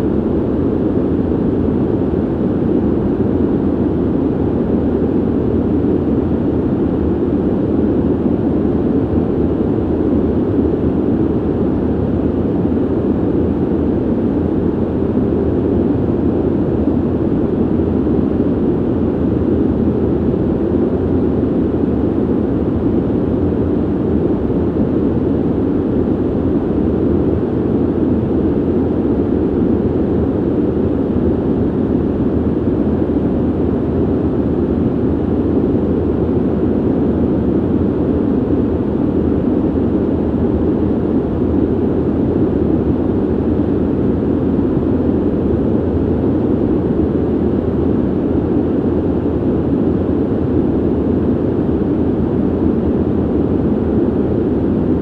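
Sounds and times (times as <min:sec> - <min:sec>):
ventilation air rushing: 0:00.0 - 0:55.0.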